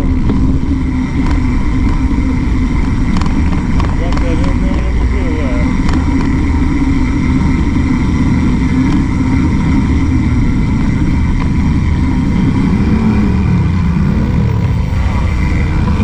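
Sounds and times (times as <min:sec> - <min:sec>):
bicycle rolling noise: 0:00.0 - 0:16.0
road traffic: 0:00.0 - 0:16.0
wind rumble on microphone: 0:00.0 - 0:16.0.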